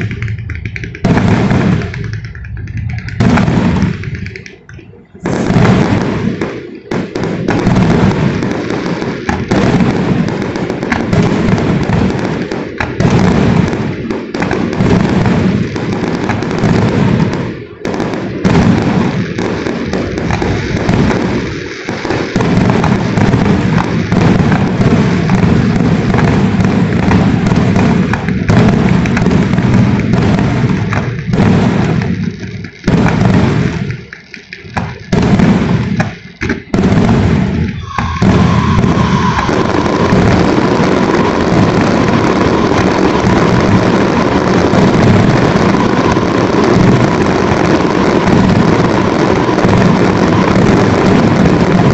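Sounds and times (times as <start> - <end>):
steady rushing noise: 0.0 - 18.4, 19.0 - 51.9
fireworks bursting and crackling: 0.0 - 51.9.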